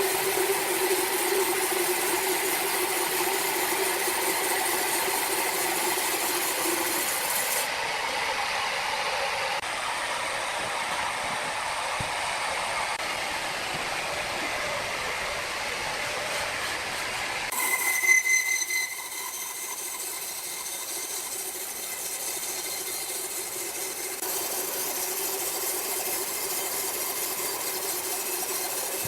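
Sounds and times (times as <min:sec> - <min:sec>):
saw cutting through log: 0:00.0 - 0:09.7, 0:13.8 - 0:29.0.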